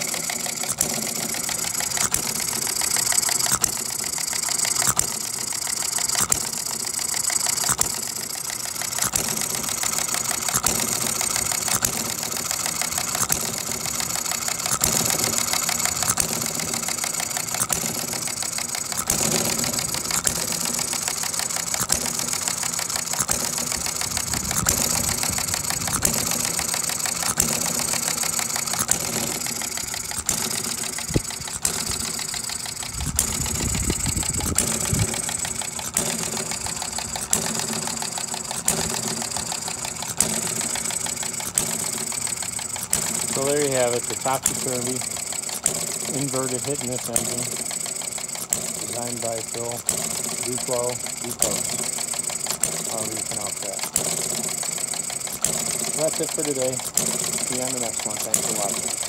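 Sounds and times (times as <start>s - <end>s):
engine firing pops: 0.0s - 59.0s
model gas engine clattering: 0.0s - 59.0s.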